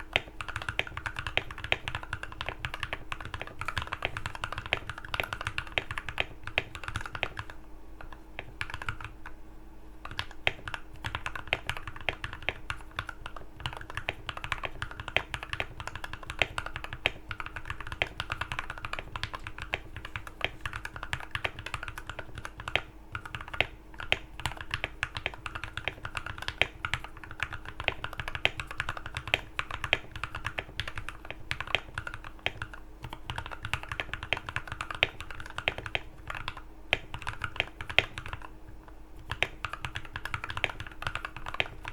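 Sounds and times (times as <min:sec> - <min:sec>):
mechanical keyboard typing: 0:00.0 - 0:09.4, 0:10.0 - 0:41.9
faint steady hum: 0:00.0 - 0:41.9.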